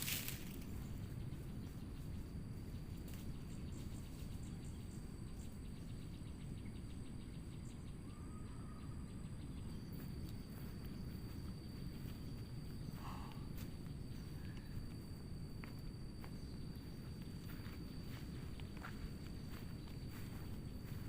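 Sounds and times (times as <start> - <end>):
insects calling in high tones: 0.0 - 21.0
low steady rumble: 0.0 - 21.0.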